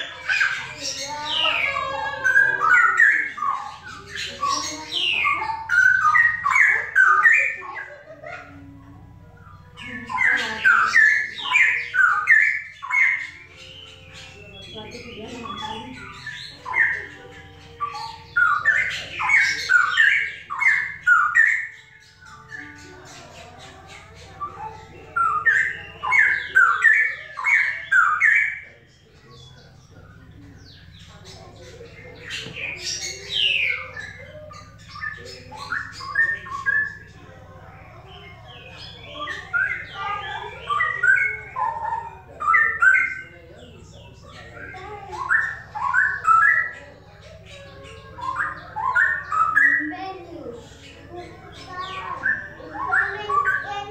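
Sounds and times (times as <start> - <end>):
birds singing: 0.0 - 53.9.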